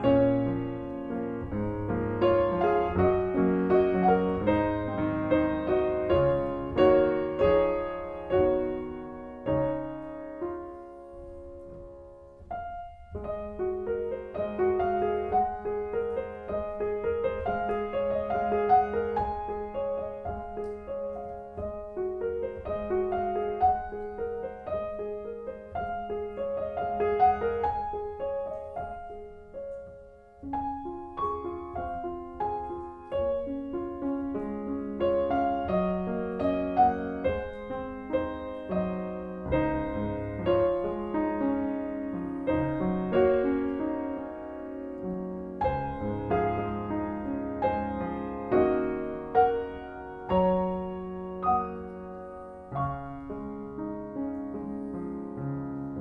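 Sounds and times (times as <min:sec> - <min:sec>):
solo piano carol: 0:00.0 - 0:56.0.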